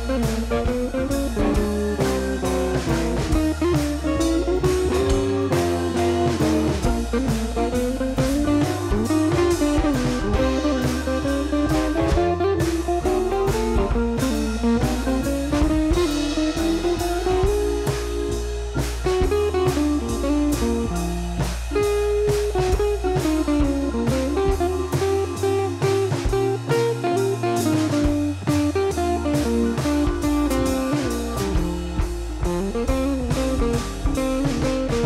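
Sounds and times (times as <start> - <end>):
instrumental guitar music: 0.0 - 35.0
steady drum beat: 0.0 - 35.0.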